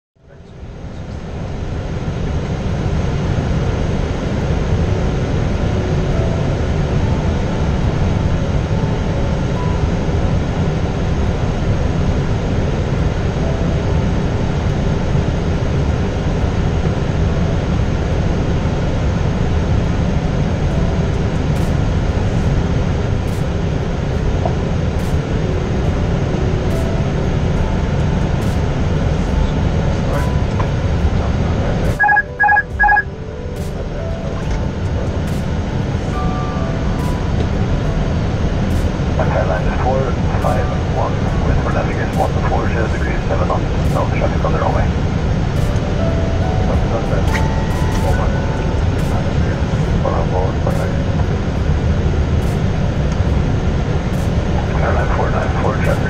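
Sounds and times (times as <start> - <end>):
cockpit airflow and engine noise: 0.2 - 56.0.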